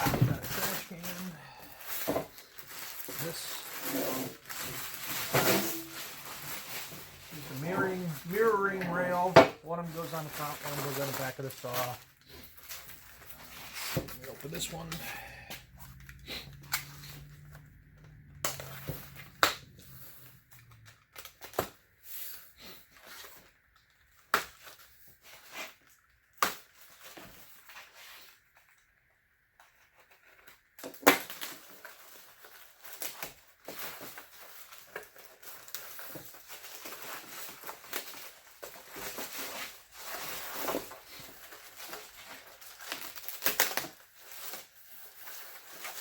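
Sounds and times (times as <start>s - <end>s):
cardboard and packing tearing: 0.0s - 15.2s, 18.4s - 28.4s, 29.9s - 46.0s.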